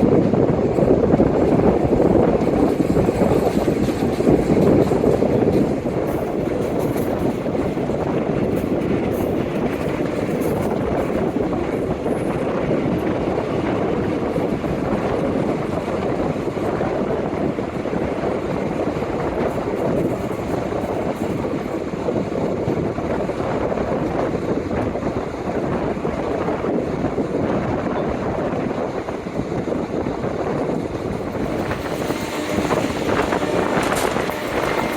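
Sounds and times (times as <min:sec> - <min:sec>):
train wheels rumbling on track: 0:00.0 - 0:34.9
wind noise: 0:00.0 - 0:34.9.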